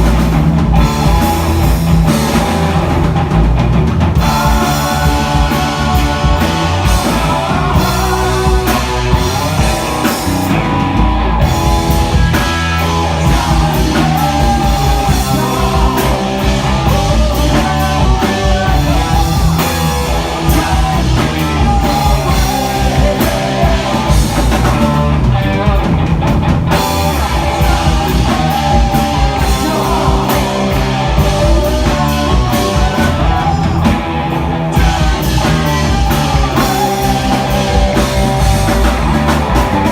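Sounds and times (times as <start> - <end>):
rock band playing live: 0.0 - 39.9
person singing: 4.2 - 25.8, 26.7 - 39.9.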